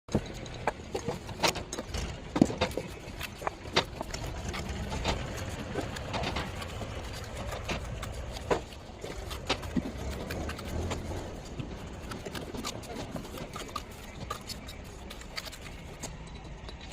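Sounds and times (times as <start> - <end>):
steady low hum: 0.1 - 16.9.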